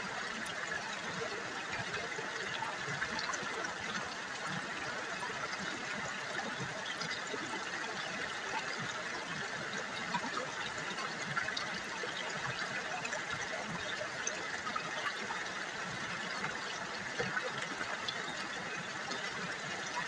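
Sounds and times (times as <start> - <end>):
river water babbling: 0.0 - 20.0.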